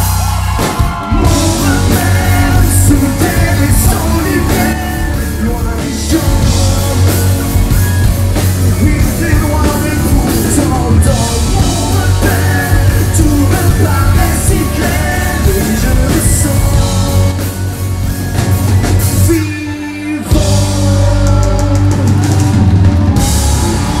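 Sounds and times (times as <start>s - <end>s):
lead singer: 0.0s - 24.0s
live rock band playing: 0.0s - 24.0s.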